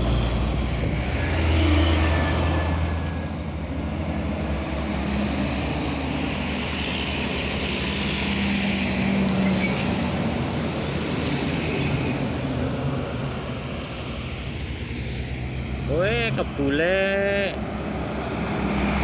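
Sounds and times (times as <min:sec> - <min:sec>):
heavy truck engine drone: 0:00.0 - 0:19.0
tyre and road noise: 0:00.0 - 0:19.0.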